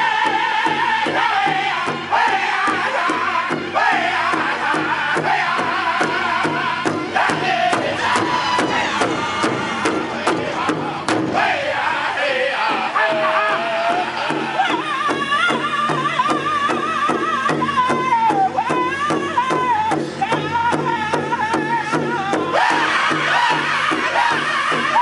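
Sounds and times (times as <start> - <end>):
group singing with high voices: 0.0 - 25.0
large drum beating: 0.1 - 25.0.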